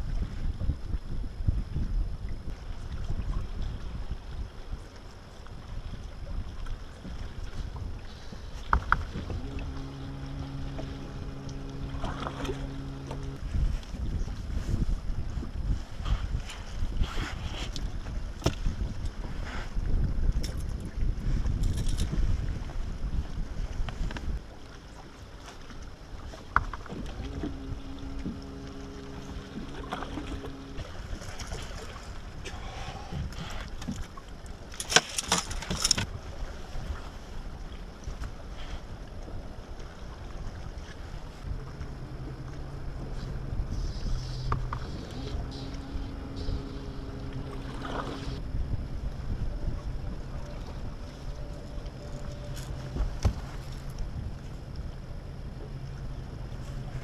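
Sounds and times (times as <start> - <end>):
wind rumbling on microphone: 0.0 - 57.0
electric trolling motor humming: 6.8 - 20.3, 21.6 - 36.1, 39.3 - 57.0.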